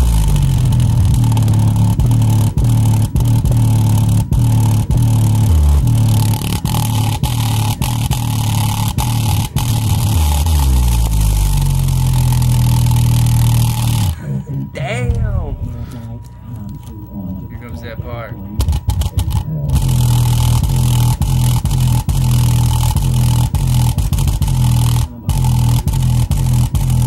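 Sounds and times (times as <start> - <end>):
subwoofer deep bass notes: 0.0 - 27.0.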